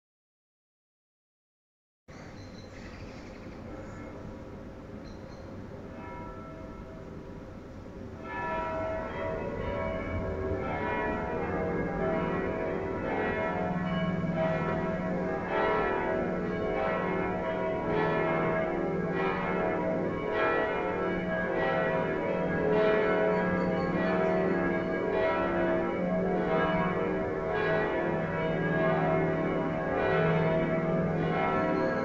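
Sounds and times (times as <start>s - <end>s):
church bells ringing: 5.6s - 32.0s.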